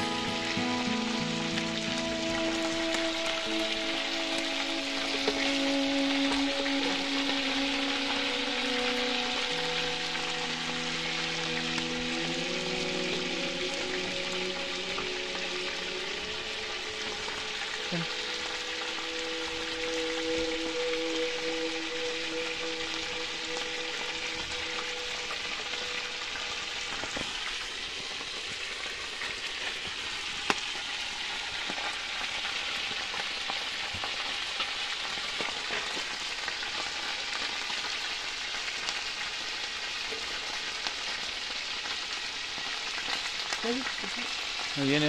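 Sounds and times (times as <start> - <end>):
crackles and snap of frying: 0.0 - 45.0
fish sizzling in hot oil: 0.0 - 45.0.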